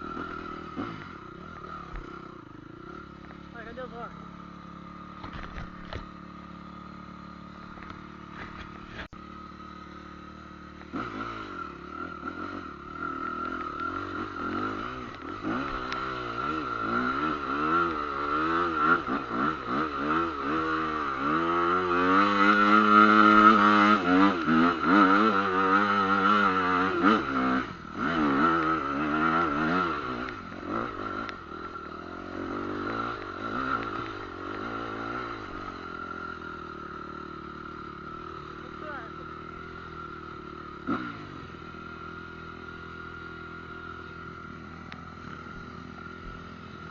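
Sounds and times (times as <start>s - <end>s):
trail motorcycle engine revving: 0.0s - 46.9s.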